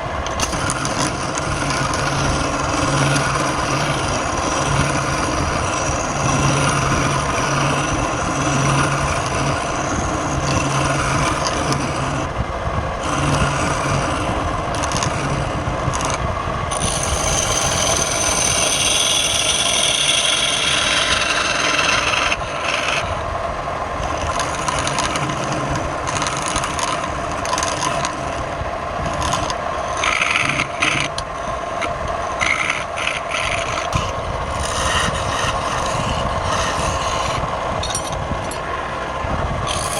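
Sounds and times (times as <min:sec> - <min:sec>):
lathe motor hum: 0:00.0 - 0:39.9
turning tool scraping spinning wood: 0:00.0 - 0:39.9.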